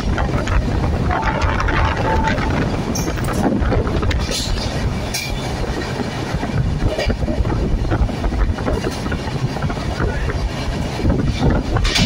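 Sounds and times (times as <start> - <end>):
rail joint clicks: 0.0 - 12.0
train wheels rumbling on rails: 0.0 - 12.0.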